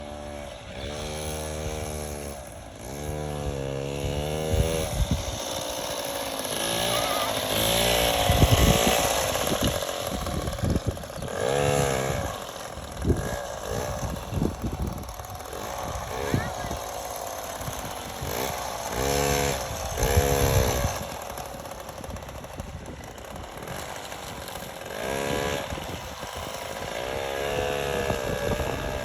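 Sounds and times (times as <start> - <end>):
moped engine revving: 0.0 - 29.0.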